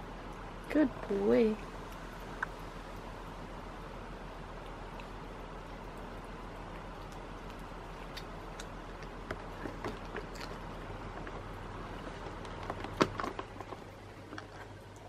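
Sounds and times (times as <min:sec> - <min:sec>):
kitten licking and lapping: 0:00.0 - 0:15.0
steady low hum: 0:00.0 - 0:15.0
small wet clicks: 0:01.6 - 0:03.6, 0:04.3 - 0:15.0.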